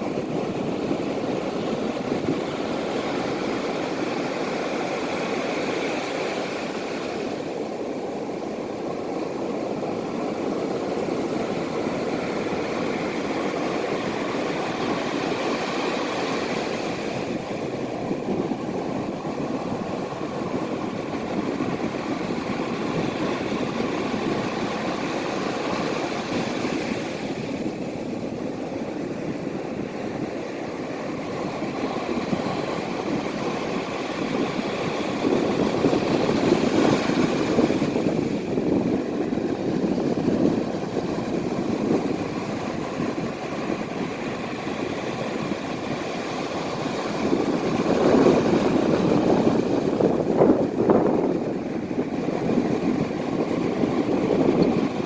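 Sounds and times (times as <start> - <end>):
ocean waves washing: 0.0 - 55.0.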